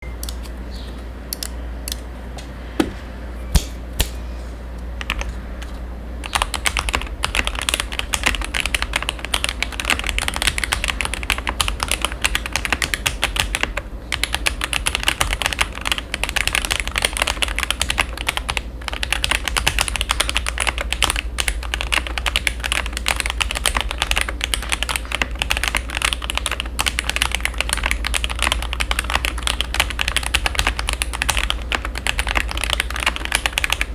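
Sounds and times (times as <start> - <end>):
mechanical keyboard typing: 5.0 - 33.9.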